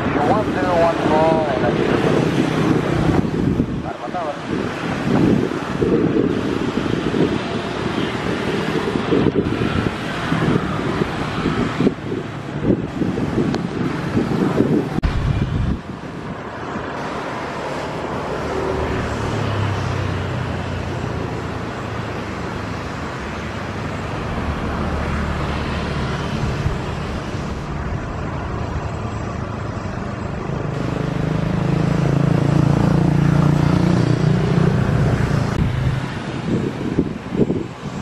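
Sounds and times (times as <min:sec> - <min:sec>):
vehicle engine rumble: 0:00.0 - 0:38.0
wind-like noise: 0:00.0 - 0:38.0.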